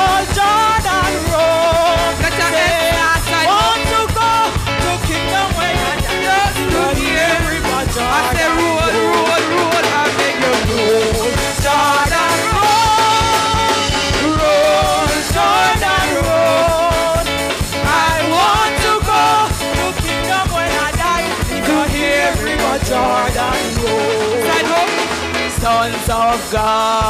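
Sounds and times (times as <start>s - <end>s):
church band playing: 0.0s - 27.0s
steady drum beat: 0.0s - 27.0s
voices singing gospel chorus: 0.0s - 27.0s.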